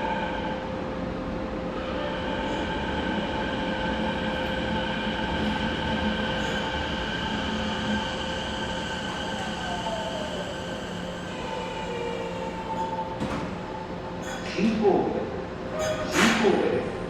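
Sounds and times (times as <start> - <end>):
train wheel and track rumble: 0.0 - 17.0.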